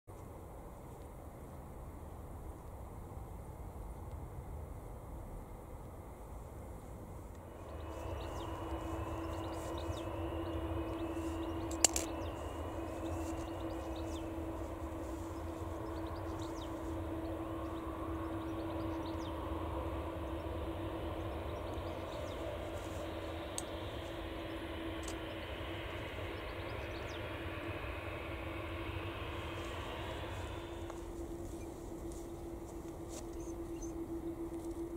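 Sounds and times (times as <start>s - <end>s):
jet engine whine: 0.1s - 34.9s.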